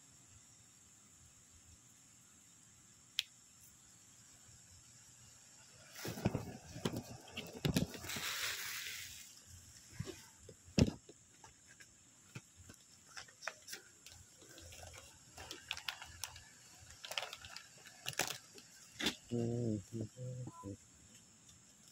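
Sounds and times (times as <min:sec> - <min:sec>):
rustle: 0:00.0 - 0:21.9.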